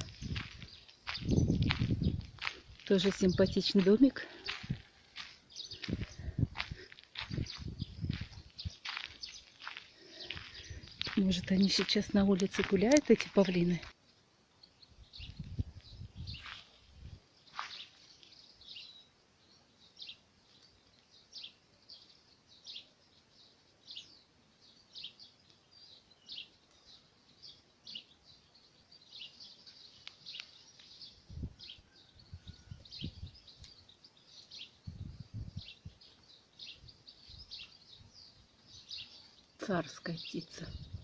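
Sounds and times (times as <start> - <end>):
small songbirds chirping: 0.0 - 41.0.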